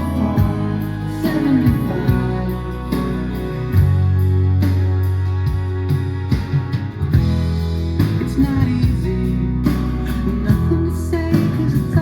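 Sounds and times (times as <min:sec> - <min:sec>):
guitar song over loudspeakers: 0:00.0 - 0:12.0.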